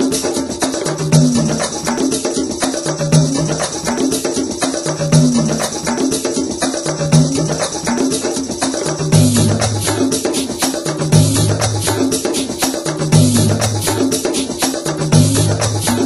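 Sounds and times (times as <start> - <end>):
music with percussive beat: 0.0 - 16.0.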